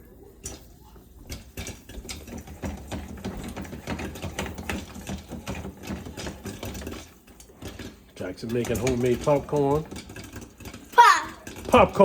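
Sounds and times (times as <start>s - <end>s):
popcorn maker humming: 0.0s - 12.0s
popcorn kernels clicking and rattling: 0.4s - 12.0s.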